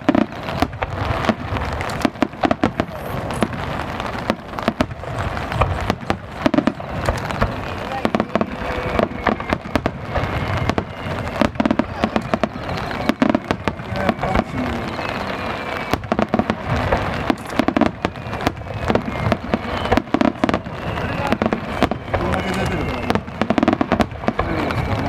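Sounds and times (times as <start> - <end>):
fireworks bursting and crackling: 0.0 - 25.0
people's voices: 0.0 - 25.0.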